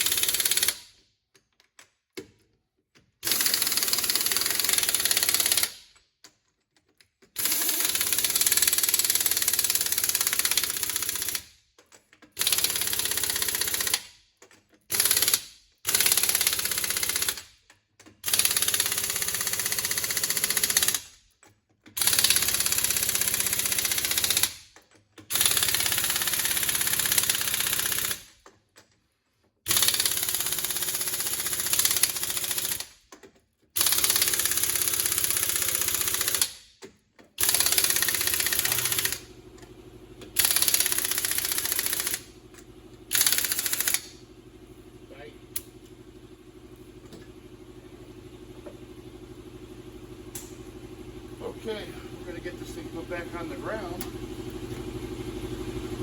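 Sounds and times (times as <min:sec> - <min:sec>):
pneumatic impact wrench rattling: 0:00.0 - 0:01.0, 0:03.2 - 0:06.0, 0:07.3 - 0:28.8, 0:29.6 - 0:51.4.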